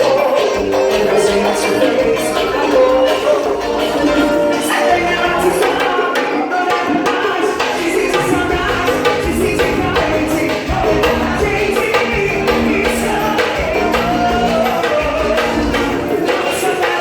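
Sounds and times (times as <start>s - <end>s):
band music: 0.0s - 17.0s
hand percussion: 0.0s - 17.0s.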